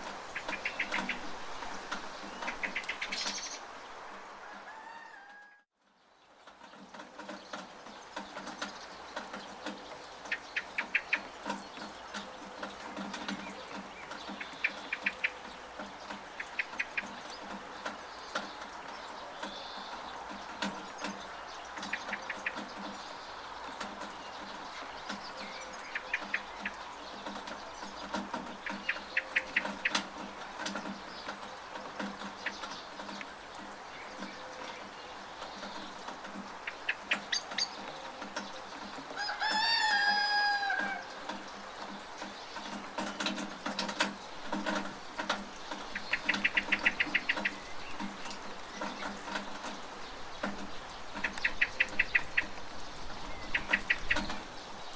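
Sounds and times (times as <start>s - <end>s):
rain pattering: 0.0s - 4.8s, 5.8s - 54.9s
bird chirping: 0.2s - 4.0s, 6.0s - 54.9s
drops falling from a gutter: 6.4s - 54.8s.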